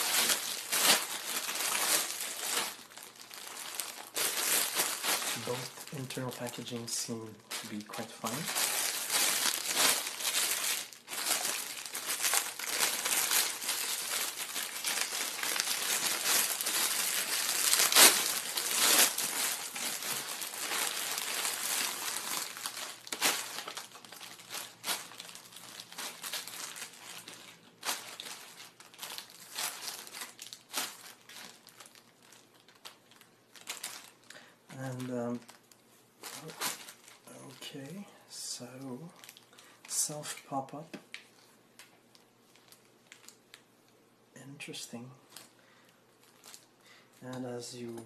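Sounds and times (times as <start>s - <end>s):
plastic bag crinkling: 0.0s - 38.0s, 38.6s - 43.9s, 45.2s - 47.2s.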